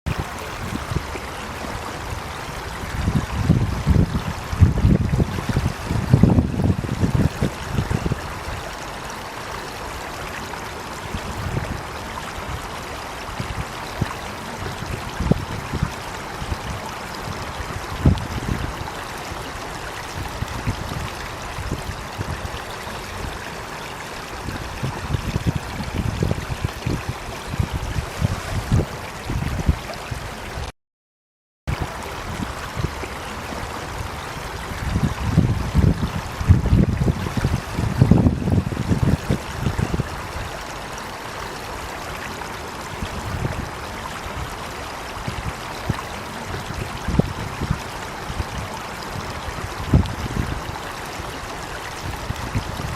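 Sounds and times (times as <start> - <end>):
stream running: 0.1 - 30.7, 31.7 - 52.9.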